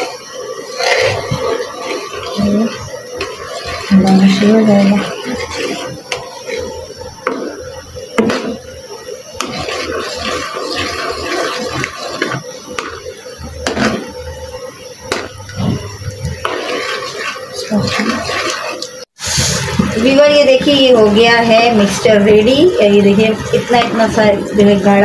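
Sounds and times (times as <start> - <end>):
sauce bubbling: 0.0 - 25.0.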